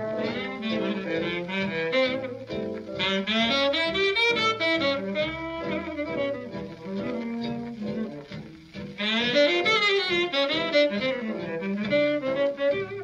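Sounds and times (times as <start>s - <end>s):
band rhythm section: 0.0s - 13.0s
tenor saxophone jazz solo: 0.0s - 13.0s.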